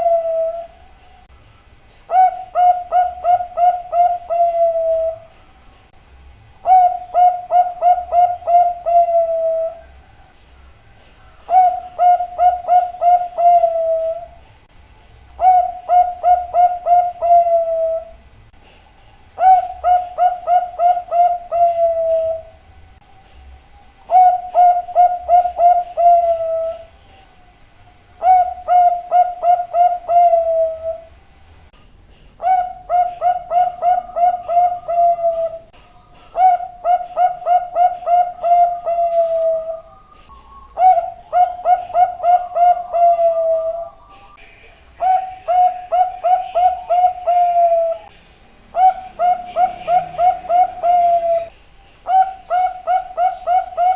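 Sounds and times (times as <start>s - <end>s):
dove cooing: 0.0s - 0.9s, 2.1s - 5.4s, 6.6s - 10.2s, 11.2s - 14.4s, 15.4s - 18.2s, 19.4s - 22.6s, 24.1s - 27.2s, 28.2s - 31.2s, 32.3s - 53.9s.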